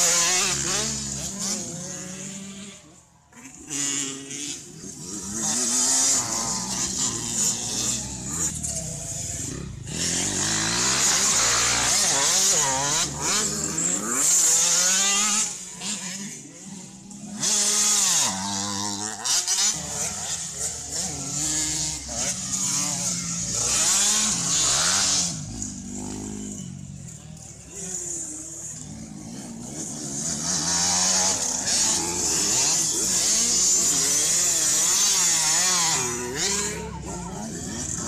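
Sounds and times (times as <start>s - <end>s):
motocross bike engines revving: 0.0s - 38.0s.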